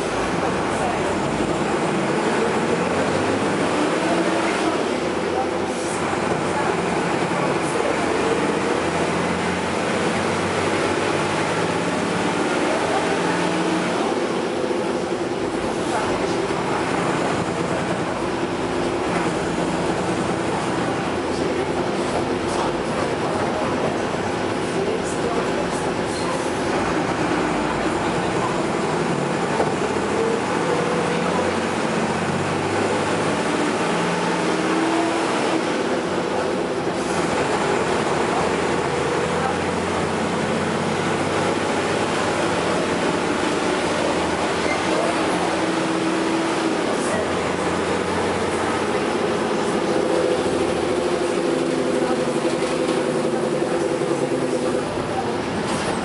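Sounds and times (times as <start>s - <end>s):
vehicle engine rumble: 0.0s - 56.0s.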